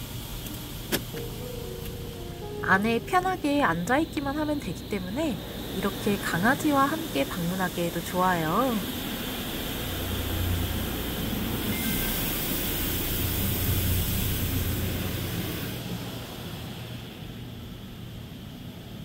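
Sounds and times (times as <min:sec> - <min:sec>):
car wash water jets hissing: 0:00.0 - 0:19.0.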